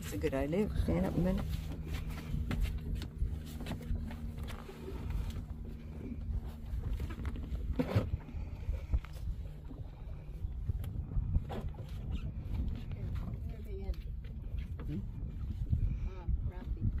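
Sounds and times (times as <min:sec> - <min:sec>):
boat motor humming: 0:00.0 - 0:17.0
low rumble of wind and water: 0:00.0 - 0:17.0.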